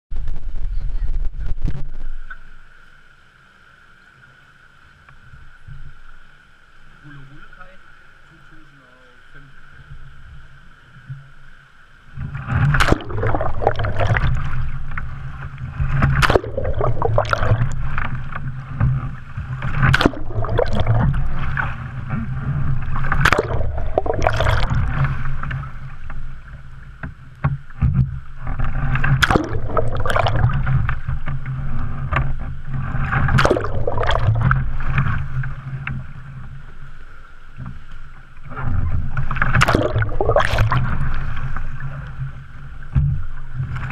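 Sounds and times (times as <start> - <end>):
water splashing around kayak: 0.2 - 43.9.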